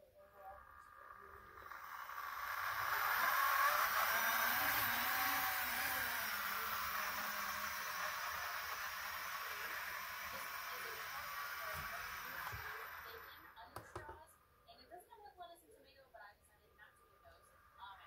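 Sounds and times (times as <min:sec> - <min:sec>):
model trams whirring on track: 0:00.0 - 0:14.6, 0:15.8 - 0:18.0.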